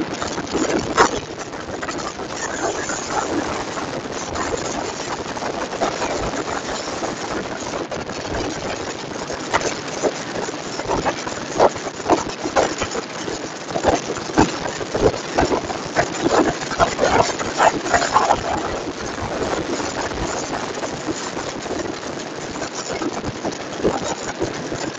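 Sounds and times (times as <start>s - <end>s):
choppy wind buffets: 0.0s - 24.9s
wind rushing over microphone: 0.0s - 24.9s.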